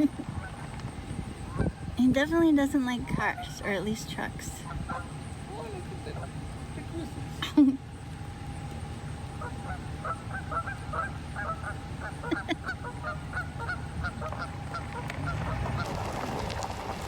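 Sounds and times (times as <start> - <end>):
geese honking: 0.0 - 7.3, 8.2 - 17.0.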